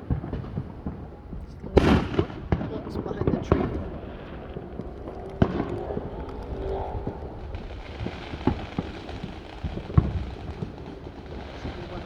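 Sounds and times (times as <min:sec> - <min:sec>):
distant fireworks bangs and pops: 0:00.0 - 0:12.0.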